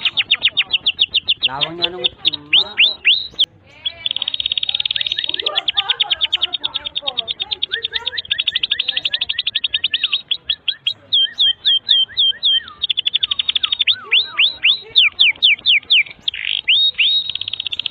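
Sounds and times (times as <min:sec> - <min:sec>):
canary singing trills: 0:00.0 - 0:17.9.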